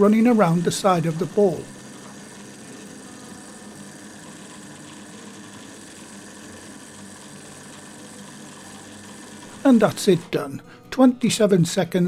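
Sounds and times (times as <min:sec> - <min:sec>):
food processor motor running: 0:00.0 - 0:11.7.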